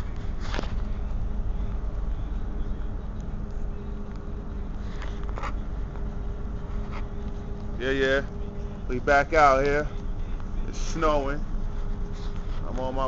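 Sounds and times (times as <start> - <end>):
ferry engines droning: 0.0 - 13.0.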